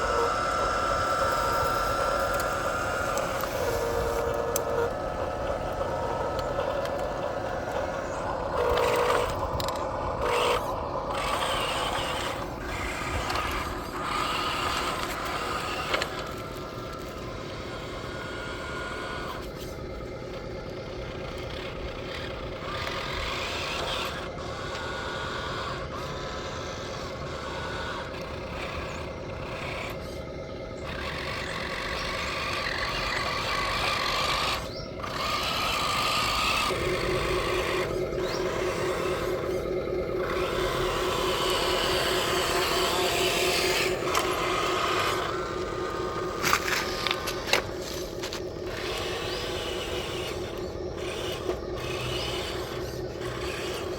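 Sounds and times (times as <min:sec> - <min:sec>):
small electric motors whining: 0:00.0 - 0:53.9.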